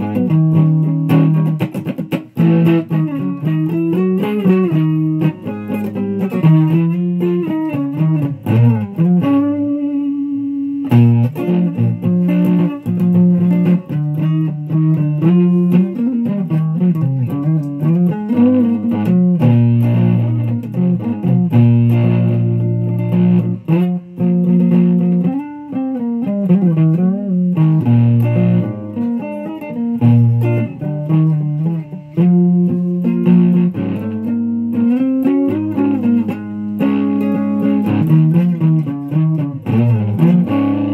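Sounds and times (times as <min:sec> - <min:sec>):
fuzz electric guitar with bends: 0:00.0 - 0:40.9.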